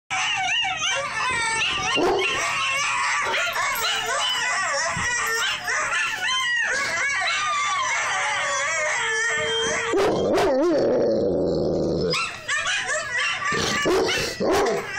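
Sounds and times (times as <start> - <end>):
dog yips and whimpers: 0.1 - 10.8, 12.0 - 14.9
dog howling: 0.1 - 14.9.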